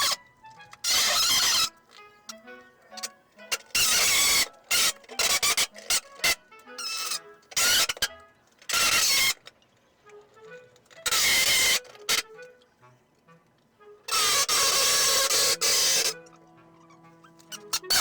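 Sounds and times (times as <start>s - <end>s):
soft background music: 0.0s - 18.0s.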